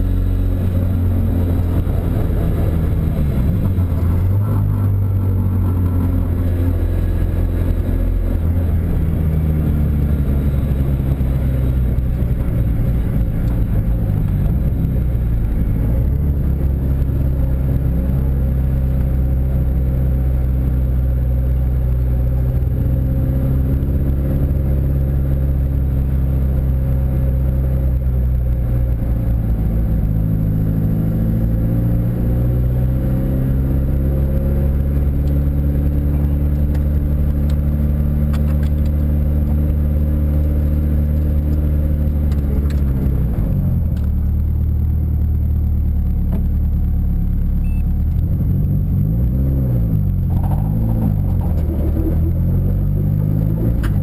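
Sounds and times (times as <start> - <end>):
car engine at low revs: 0.0 - 54.0.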